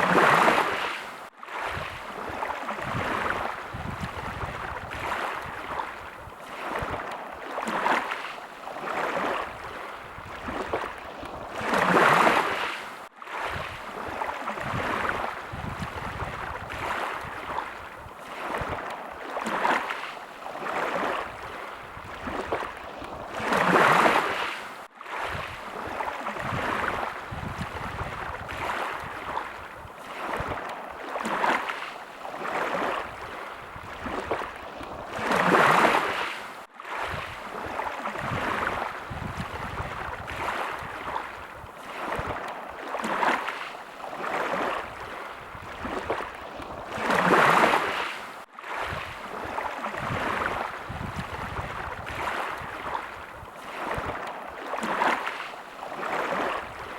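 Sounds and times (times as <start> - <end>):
small waves lapping at shore: 0.0 - 56.9.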